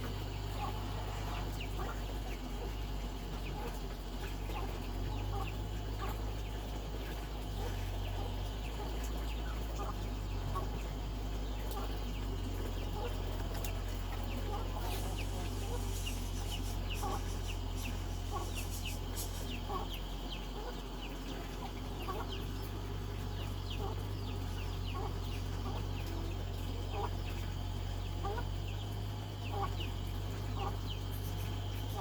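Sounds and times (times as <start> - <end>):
steady low rumble: 0.0 - 32.0
lower rising bird calls: 4.4 - 32.0.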